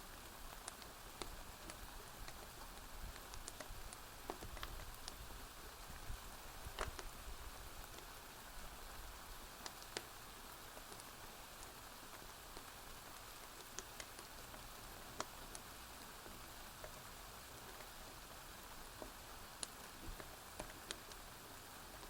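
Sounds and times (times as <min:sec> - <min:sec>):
steady rain falling: 0:00.0 - 0:22.0
wood fire crackling: 0:00.0 - 0:22.0.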